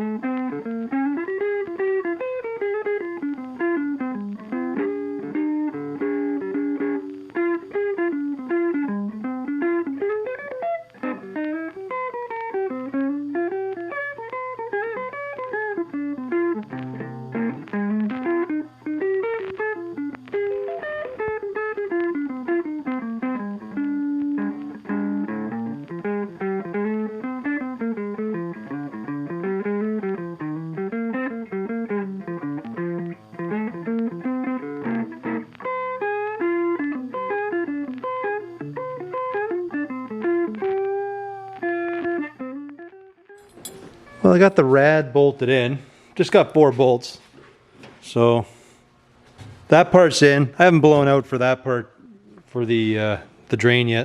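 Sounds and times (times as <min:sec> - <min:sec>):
guitar instrumental music: 0:00.0 - 0:54.0.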